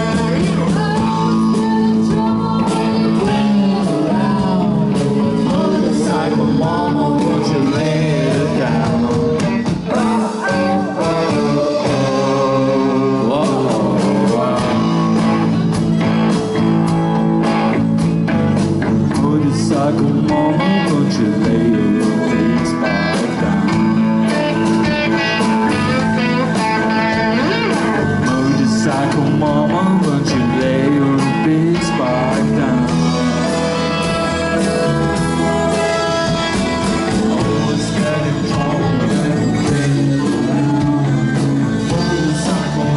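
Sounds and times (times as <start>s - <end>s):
drums: 0.0s - 42.9s
electric guitars: 0.0s - 42.9s.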